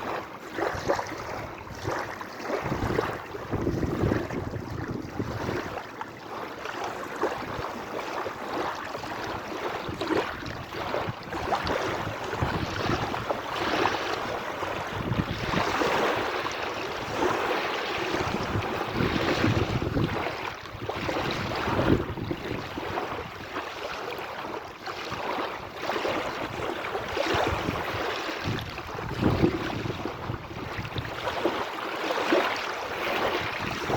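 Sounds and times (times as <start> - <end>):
sea waves splashing: 0.0 - 33.9.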